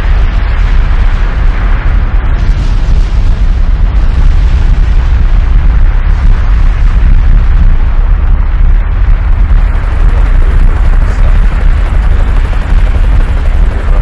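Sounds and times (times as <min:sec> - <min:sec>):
loud rumbling roar with hiss: 0:00.0 - 0:14.0.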